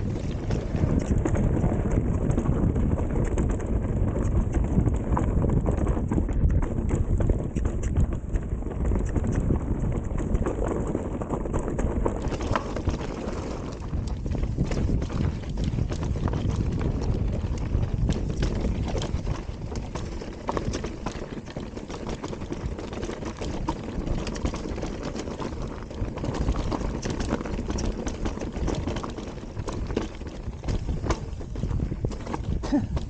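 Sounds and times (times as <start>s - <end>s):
bike tyres rumbling on rocky trail: 0.0s - 33.0s
clicks and knocks of stones: 0.0s - 33.0s.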